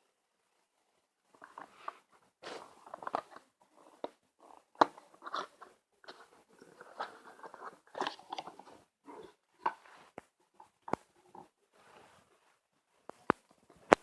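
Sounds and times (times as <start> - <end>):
crinkly rustles: 1.3 - 14.0.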